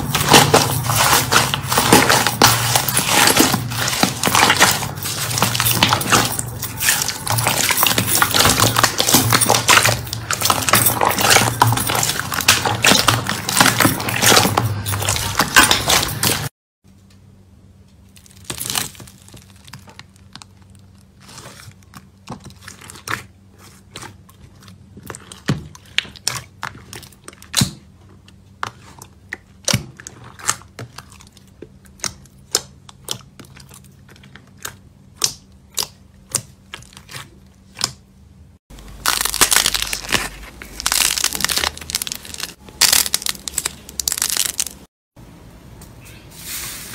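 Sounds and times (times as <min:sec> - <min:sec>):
slime squelching: 0:00.0 - 0:16.5, 0:18.1 - 0:38.1, 0:38.8 - 0:44.9.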